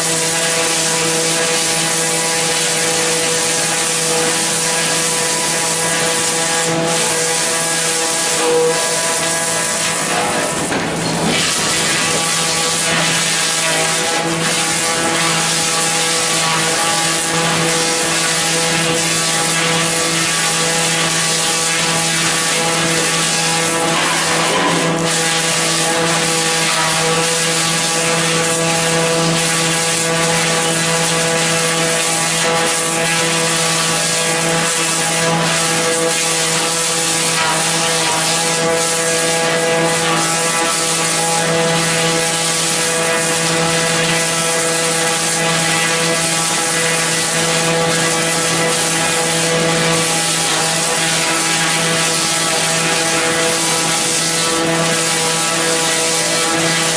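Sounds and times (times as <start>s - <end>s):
cutters rushing noise: 0.0s - 56.9s
machine mechanical drone: 0.0s - 56.9s.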